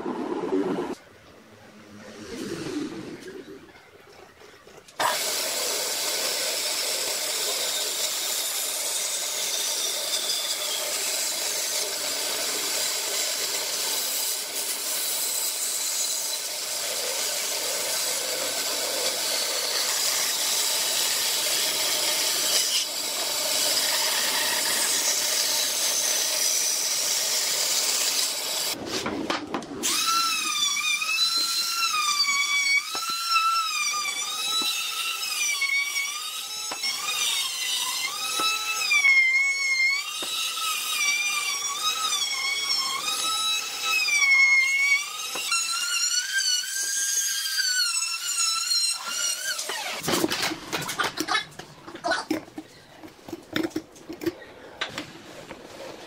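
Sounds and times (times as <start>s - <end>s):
band saw cutting wood: 5.0s - 28.8s, 29.8s - 51.4s.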